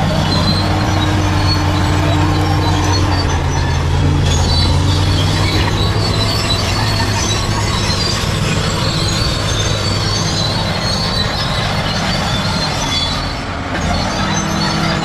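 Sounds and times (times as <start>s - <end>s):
diesel engine running: 0.0s - 15.0s
steel tracks squealing and clattering: 0.0s - 15.0s.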